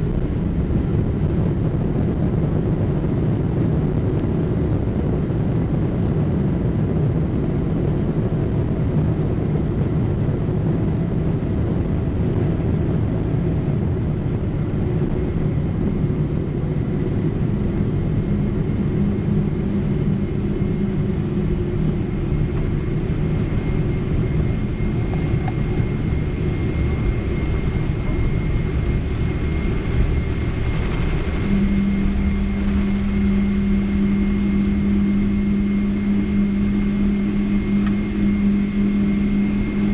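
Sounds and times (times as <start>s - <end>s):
airliner cabin engine rumble: 0.0s - 39.9s
low steady hum: 0.0s - 39.9s.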